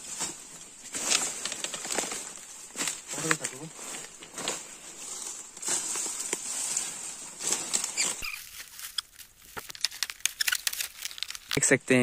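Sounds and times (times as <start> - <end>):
rustling in dry leaves: 0.0 - 11.8.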